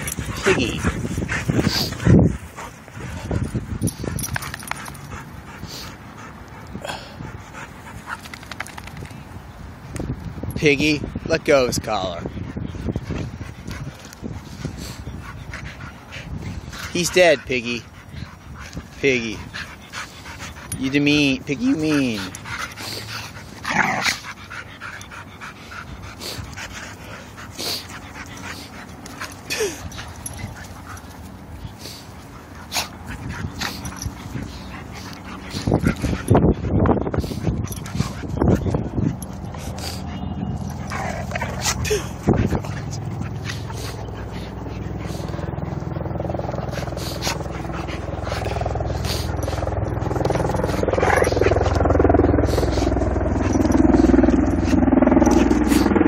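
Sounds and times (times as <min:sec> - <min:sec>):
dogs panting: 0:00.0 - 0:56.0.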